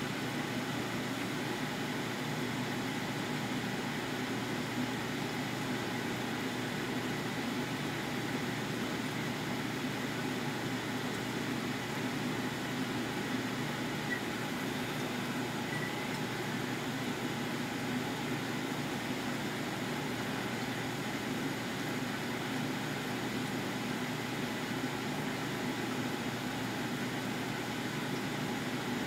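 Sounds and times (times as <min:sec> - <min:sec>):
faint steady whine: 0:00.0 - 0:29.0
mechanical hum with hiss: 0:00.0 - 0:29.0.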